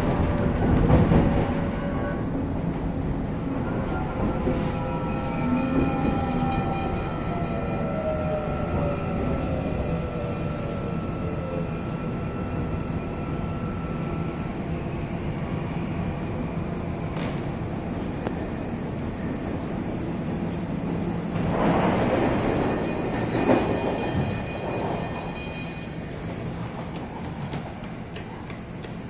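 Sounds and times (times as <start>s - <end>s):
train wheels and motors rumbling: 0.0s - 29.0s.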